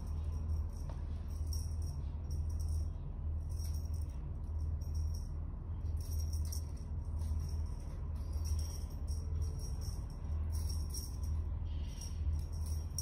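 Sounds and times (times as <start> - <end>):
jingling rattle shaken: 0.0 - 13.0
low steady hum: 0.0 - 13.0.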